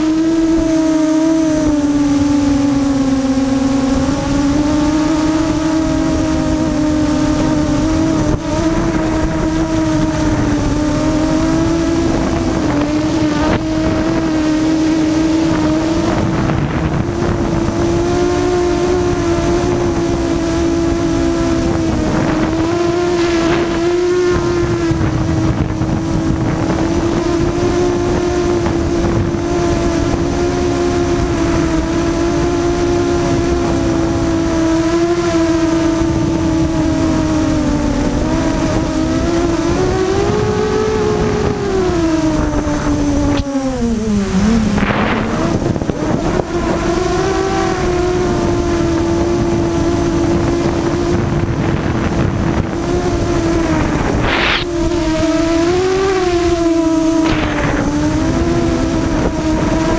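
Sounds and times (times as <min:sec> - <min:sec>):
quadcopter motors whining: 0:00.0 - 0:59.9
wind noise: 0:00.0 - 0:59.9.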